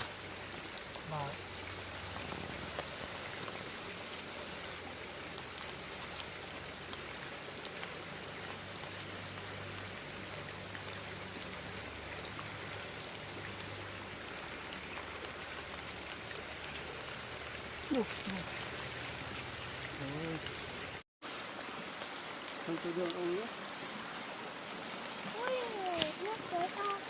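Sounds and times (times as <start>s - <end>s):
mountain stream flowing: 0.0s - 27.0s.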